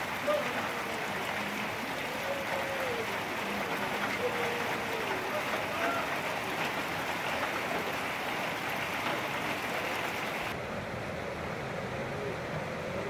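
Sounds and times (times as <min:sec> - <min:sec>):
dull steady noise: 0:00.0 - 0:13.0
rain hiss: 0:00.0 - 0:13.0.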